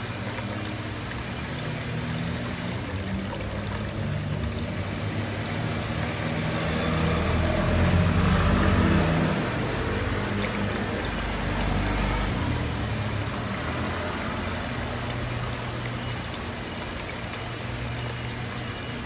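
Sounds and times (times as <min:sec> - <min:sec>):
water trickling down fountain: 0:00.0 - 0:19.0.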